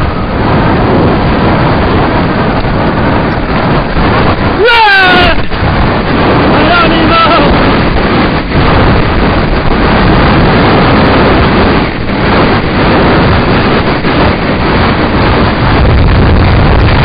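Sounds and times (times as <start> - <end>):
tyres rumbling on rough ground: 0.0 - 17.0
wind rushing over microphone: 0.0 - 17.0.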